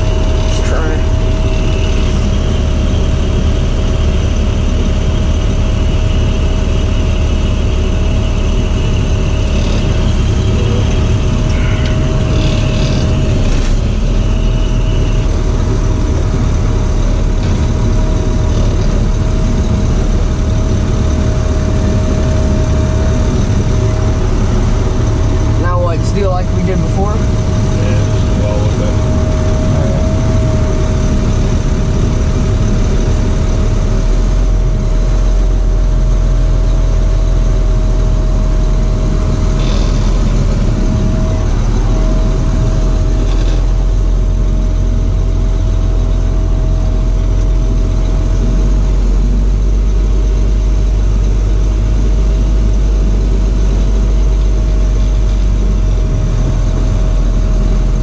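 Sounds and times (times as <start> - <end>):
high whine: 0.0 - 58.0
truck engine running: 0.0 - 58.0.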